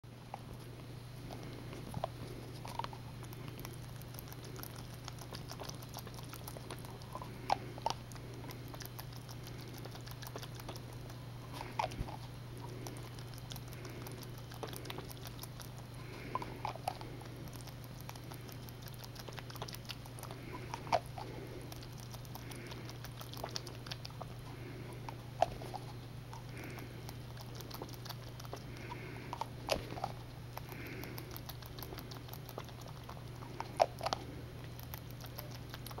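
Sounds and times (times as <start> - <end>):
steady low hum: 0.0 - 36.0
rabbit suckling from a bottle: 0.2 - 36.0.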